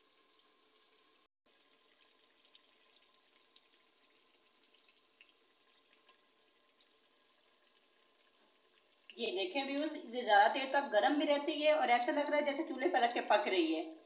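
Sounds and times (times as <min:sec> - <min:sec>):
faint crackles of food sizzling: 0:00.0 - 0:14.0.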